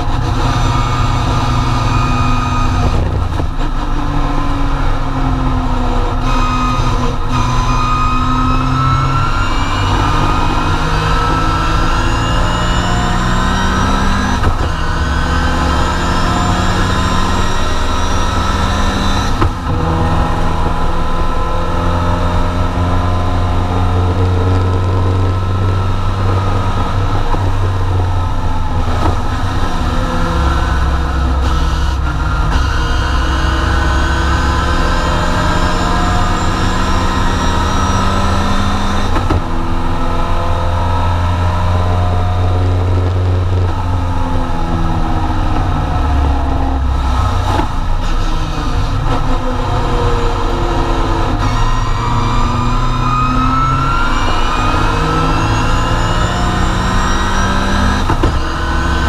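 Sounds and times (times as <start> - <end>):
race car engine revving through gears: 0.0 - 59.0.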